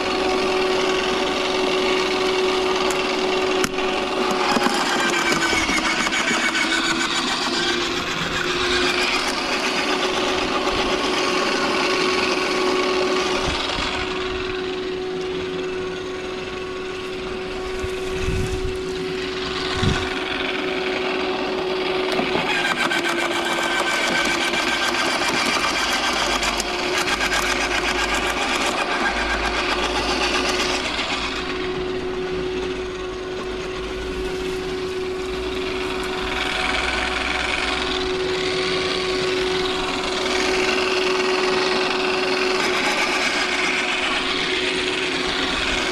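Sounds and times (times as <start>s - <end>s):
garden shredder motor whine: 0.0s - 45.9s.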